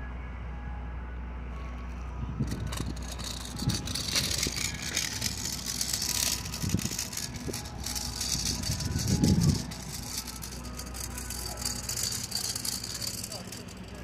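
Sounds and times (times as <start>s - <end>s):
vehicle engine humming: 0.0s - 14.0s
low rumbles: 1.3s - 14.0s
rattling: 2.4s - 14.0s.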